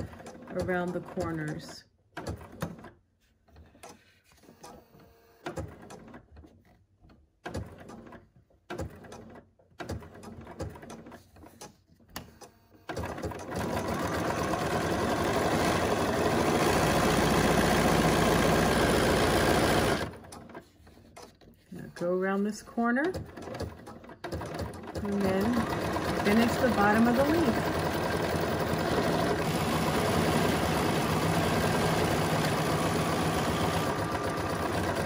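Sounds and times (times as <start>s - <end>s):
sewing machine stitching: 0.0s - 6.7s, 7.4s - 35.0s.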